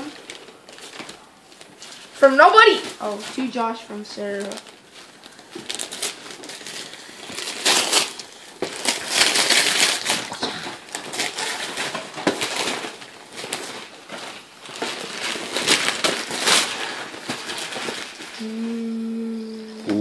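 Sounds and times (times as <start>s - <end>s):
wrapping paper tearing and crumpling: 0.0s - 18.6s.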